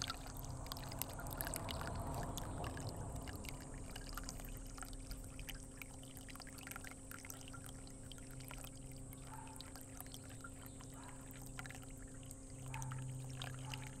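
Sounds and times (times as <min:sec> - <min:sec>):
small drip-like clicks: 0:00.0 - 0:14.0
steady low hum: 0:00.0 - 0:14.0
water trickling and dripping: 0:00.0 - 0:14.0.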